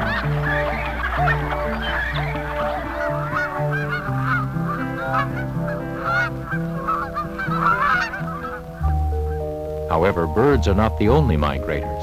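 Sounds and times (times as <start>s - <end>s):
geese honking: 0.0s - 12.0s
music of long held notes: 0.0s - 12.0s.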